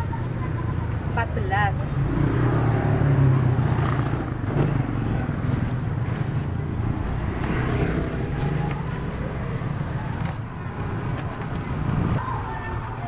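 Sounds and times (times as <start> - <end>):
motor vehicle engines humming: 0.0 - 13.0
motorcycles: 0.0 - 13.0
road noise: 0.0 - 13.0.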